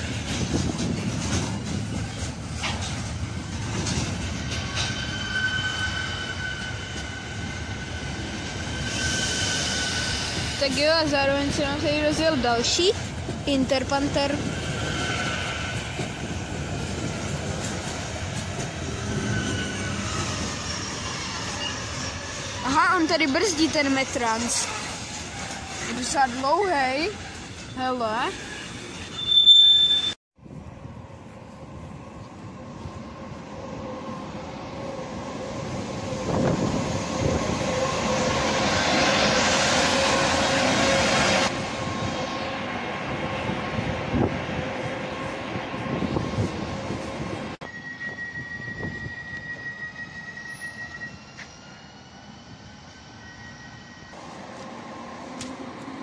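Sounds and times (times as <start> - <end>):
train wheels rumbling on rails: 0.0 - 29.4, 30.0 - 53.4
electric locomotive passing: 0.0 - 56.0.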